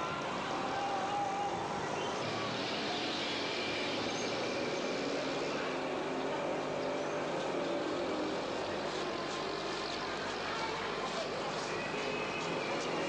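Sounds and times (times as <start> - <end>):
car and bus engines: 0.0 - 13.0.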